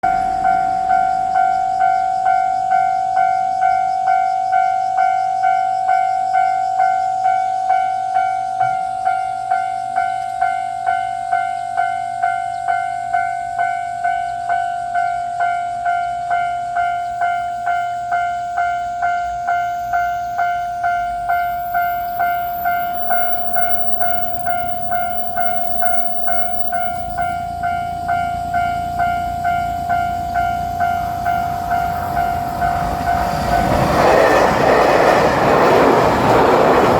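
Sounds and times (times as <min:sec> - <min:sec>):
low rumble of train: 0:00.0 - 0:36.9
railroad crossing bell ringing: 0:00.0 - 0:36.9.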